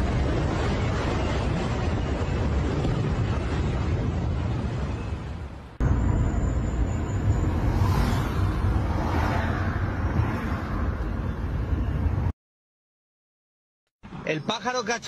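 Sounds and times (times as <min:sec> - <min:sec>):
car engine and tyre rumble: 0:00.0 - 0:12.3.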